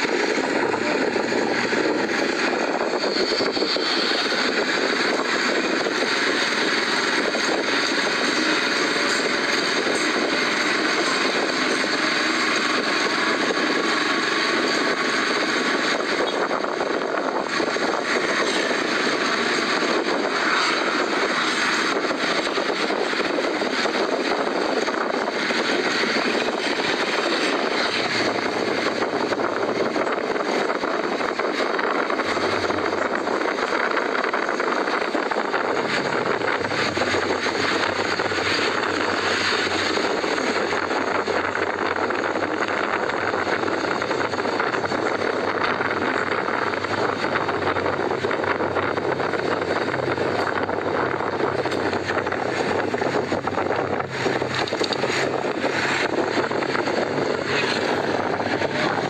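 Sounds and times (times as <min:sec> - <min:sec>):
engine drone: 0:00.0 - 0:59.0
wind noise from moving vehicle: 0:00.0 - 0:59.0.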